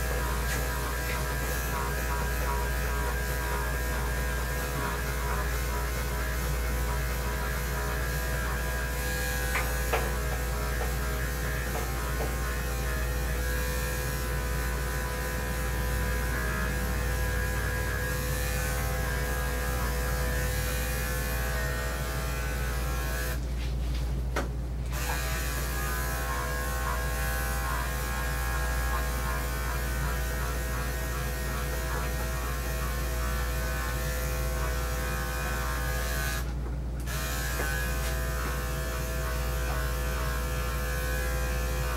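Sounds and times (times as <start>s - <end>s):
electric clippers running: 0.0s - 23.4s, 24.8s - 41.9s.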